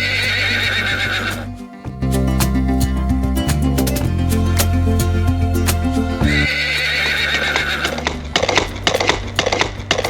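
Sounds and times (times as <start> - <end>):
music with bass and ticking beat: 0.0 - 10.0.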